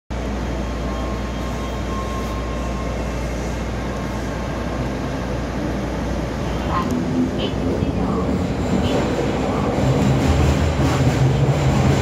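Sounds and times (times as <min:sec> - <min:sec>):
subway car interior noise: 0:00.1 - 0:12.0.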